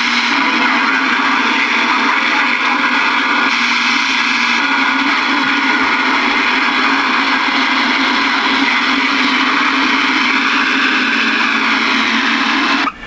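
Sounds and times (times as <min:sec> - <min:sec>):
radio static hiss: 0:00.0 - 0:13.0
steady low hum: 0:00.0 - 0:13.0.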